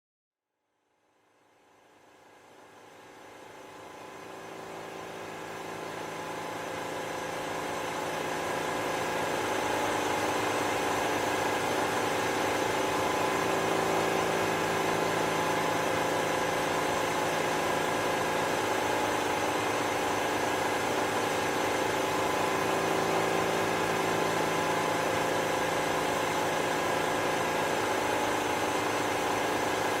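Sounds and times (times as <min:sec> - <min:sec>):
engine idling: 0:03.1 - 0:30.0.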